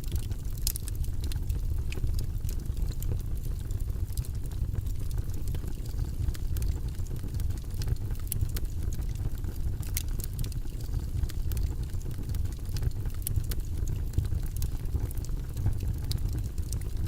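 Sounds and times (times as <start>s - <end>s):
low rumbling white noise: 0.0s - 17.0s.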